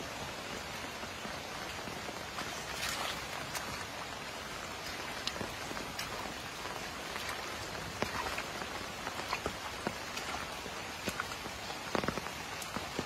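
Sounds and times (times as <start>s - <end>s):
rain hissing on water: 0.0s - 13.0s.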